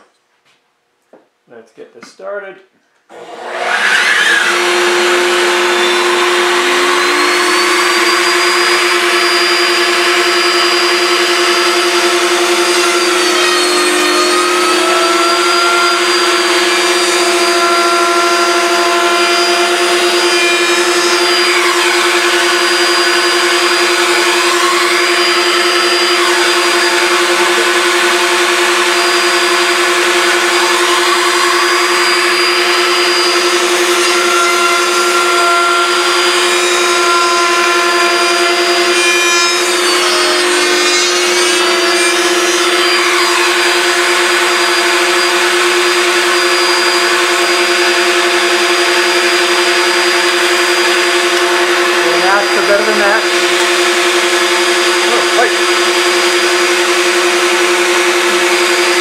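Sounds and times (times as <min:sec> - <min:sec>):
wood router whining: 0:03.0 - 0:59.0.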